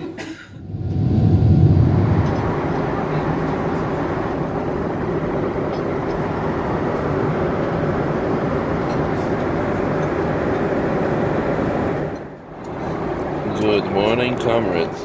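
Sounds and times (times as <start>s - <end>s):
airliner cabin jet noise: 0.0s - 15.0s.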